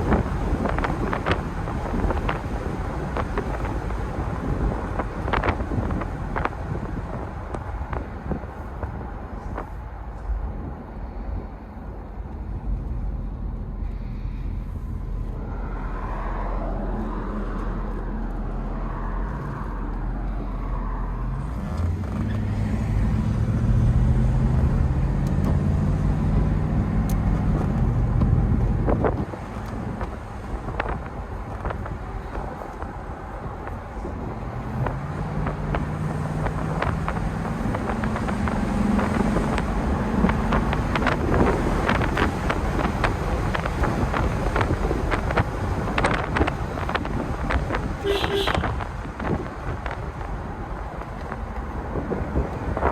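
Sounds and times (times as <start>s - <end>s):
wind and road noise: 0.0s - 52.9s
car engine accelerating: 10.3s - 52.9s.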